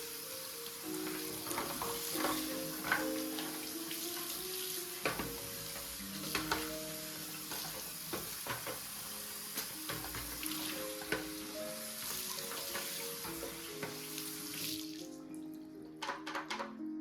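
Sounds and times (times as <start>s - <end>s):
food frying sizzle: 0.0s - 15.6s
soft background music: 0.0s - 17.0s.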